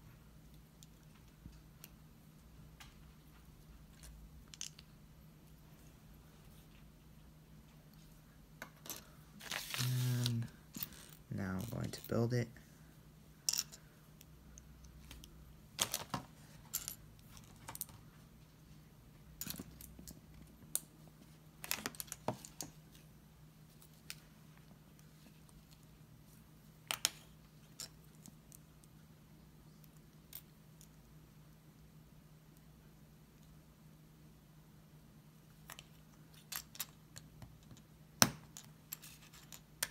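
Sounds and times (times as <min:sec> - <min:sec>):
faint low hum: 0:00.0 - 0:39.9.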